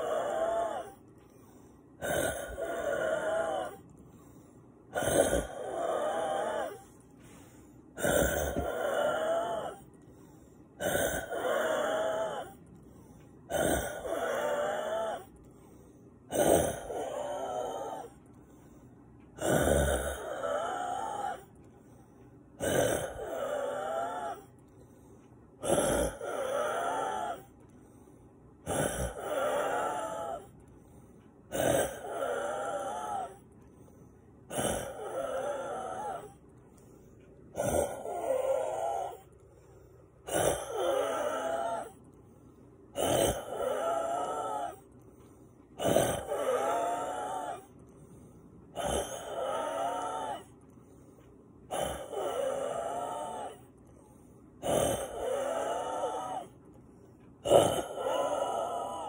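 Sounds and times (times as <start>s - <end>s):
man wheezing breaths: 0.0s - 59.0s.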